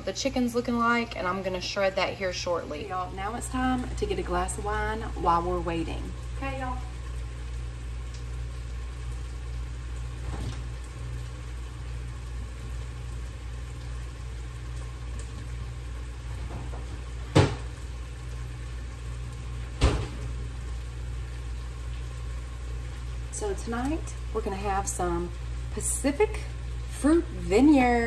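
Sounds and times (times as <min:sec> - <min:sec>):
low kitchen hum: 0:00.0 - 0:28.0.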